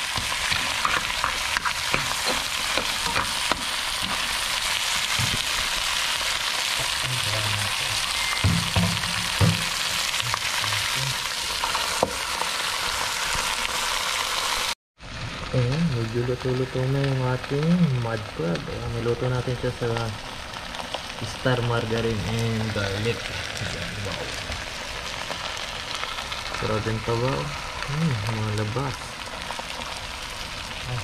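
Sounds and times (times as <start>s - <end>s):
crab frying sizzle: 0.0s - 31.0s.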